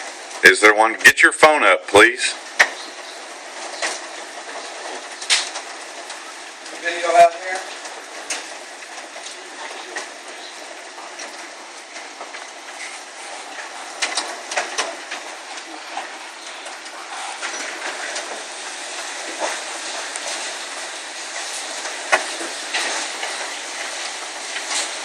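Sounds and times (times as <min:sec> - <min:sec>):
hail pelting down: 0:00.0 - 0:25.0
sharp cracks of hailstones striking: 0:00.0 - 0:25.0.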